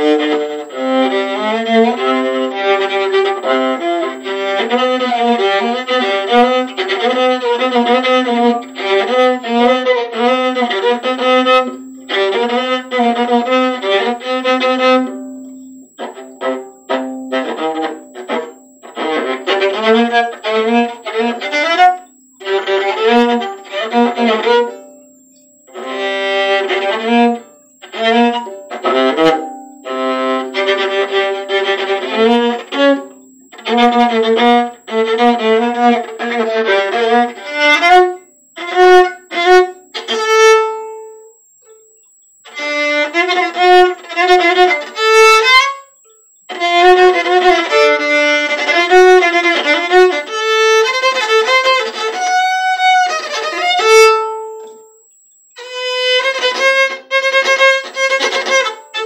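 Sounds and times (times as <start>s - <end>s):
solo bowed viola: 0.0s - 55.0s, 55.6s - 59.0s.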